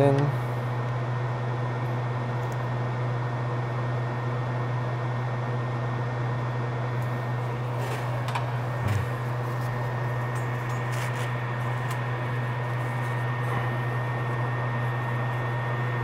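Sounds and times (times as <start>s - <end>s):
fan whirring: 0.0s - 16.0s.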